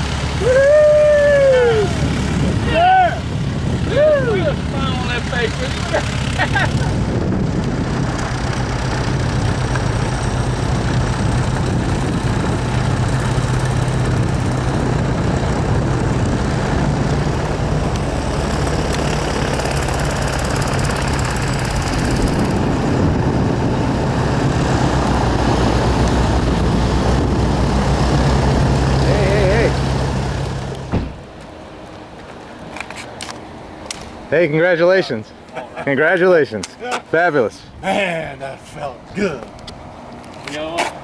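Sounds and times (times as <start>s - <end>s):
road and wind noise: 0.0s - 41.0s
vehicle engine humming: 0.0s - 41.0s.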